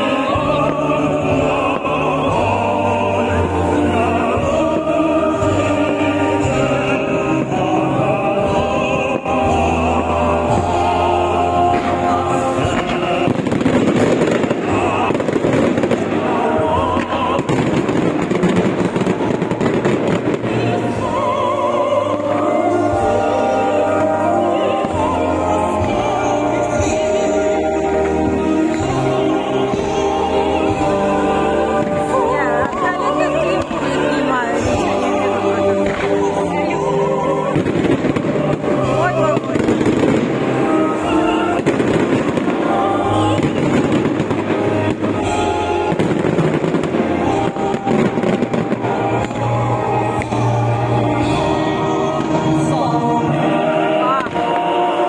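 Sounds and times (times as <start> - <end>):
fireworks crackling and popping: 0.0 - 55.0
operatic singing with music: 0.0 - 55.0.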